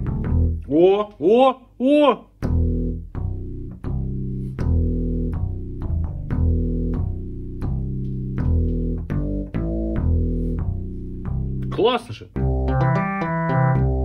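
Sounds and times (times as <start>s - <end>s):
keyboard playing plucked bass notes: 0.0s - 1.0s, 2.4s - 14.0s.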